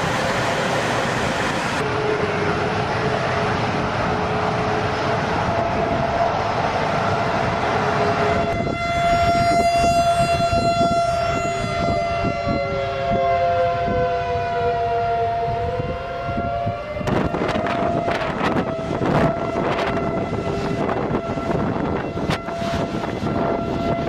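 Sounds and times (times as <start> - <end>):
jet engines whining and roaring: 0.0 - 24.0
wind buffeting microphone: 0.0 - 24.0.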